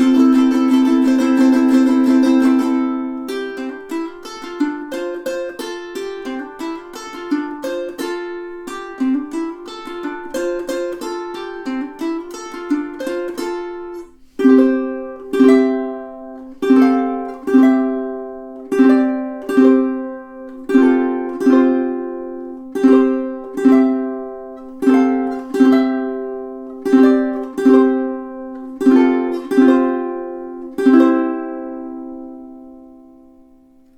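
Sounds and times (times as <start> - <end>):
ukulele playing: 0.0 - 33.9.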